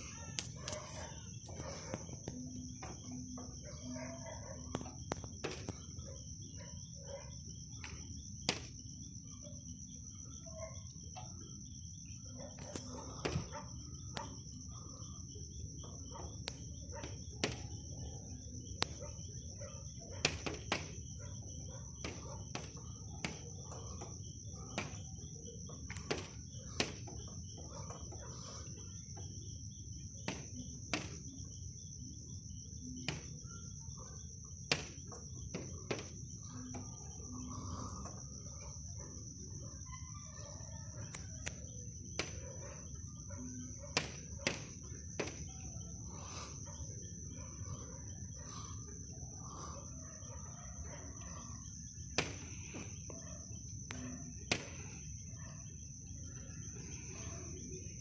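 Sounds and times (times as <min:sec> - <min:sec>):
insects trilling high: 0:00.0 - 0:58.0
lower insect chirp: 0:00.0 - 0:58.0.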